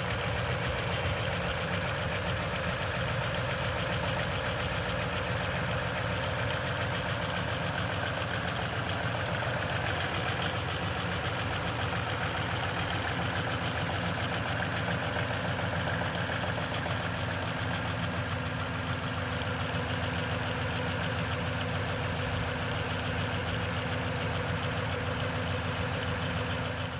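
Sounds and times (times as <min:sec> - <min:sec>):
engine idling with rattle: 0:00.0 - 0:26.9.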